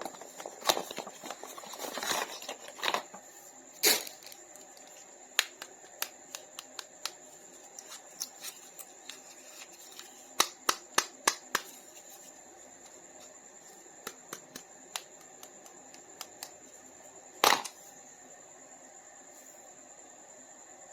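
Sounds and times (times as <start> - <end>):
faint high whine: 0.0 - 20.9.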